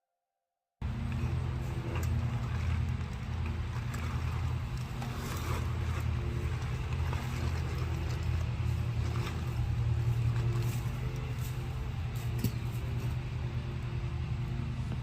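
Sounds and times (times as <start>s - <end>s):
low motor hum: 0.8s - 15.0s.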